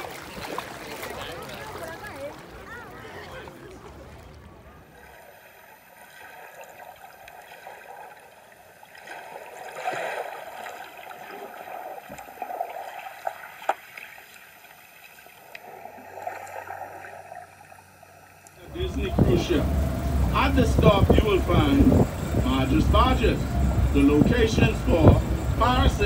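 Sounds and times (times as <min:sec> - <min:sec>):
water sloshing underwater: 0:00.0 - 0:26.0.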